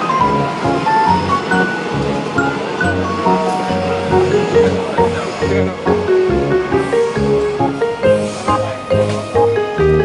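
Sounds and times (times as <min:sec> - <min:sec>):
background music: 0:00.0 - 0:10.0
departing electric train rushing: 0:00.0 - 0:10.0.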